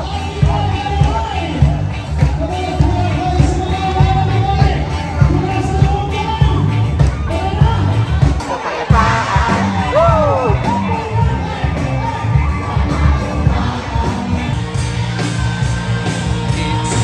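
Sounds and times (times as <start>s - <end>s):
amplified pop-rock music: 0.0s - 17.0s
crowd voices: 0.0s - 17.0s.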